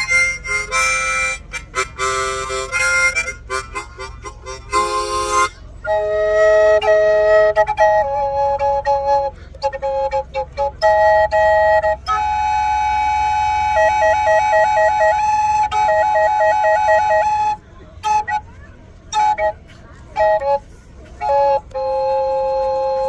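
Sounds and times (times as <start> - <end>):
drone flute playing: 0.0 - 23.0.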